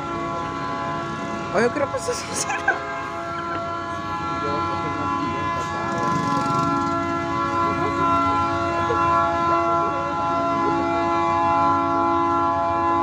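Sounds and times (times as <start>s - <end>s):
locomotive air horn blast: 0.0s - 13.0s.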